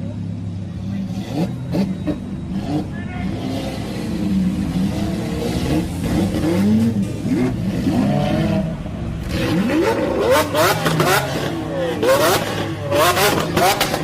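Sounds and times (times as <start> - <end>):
sports car engines revving: 0.0 - 14.0.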